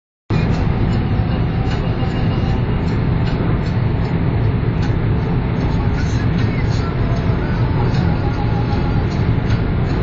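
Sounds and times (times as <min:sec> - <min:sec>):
car cabin road noise rumble: 0:00.3 - 0:10.0.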